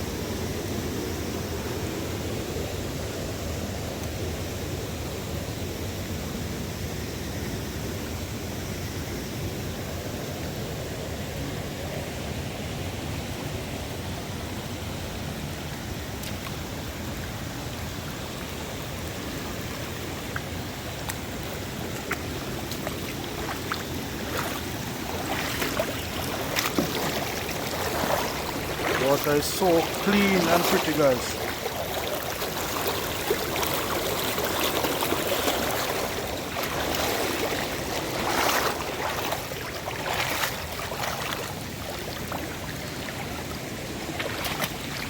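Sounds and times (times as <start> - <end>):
waterfall and stream rushing: 6.8 - 45.0.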